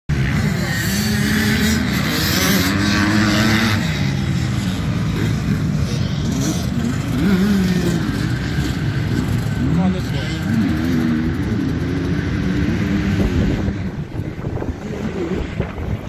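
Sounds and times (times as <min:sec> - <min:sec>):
dirt bike engines revving: 0:00.1 - 0:16.0.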